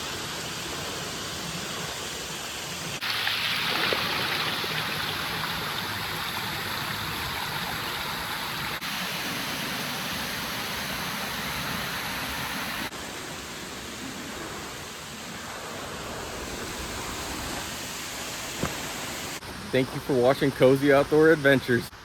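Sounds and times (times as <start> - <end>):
rush of flowing water: 0.0 - 22.0.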